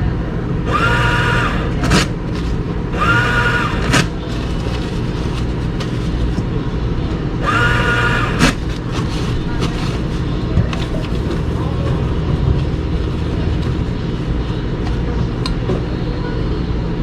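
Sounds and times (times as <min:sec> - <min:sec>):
low engine rumble: 0:01.4 - 0:17.0.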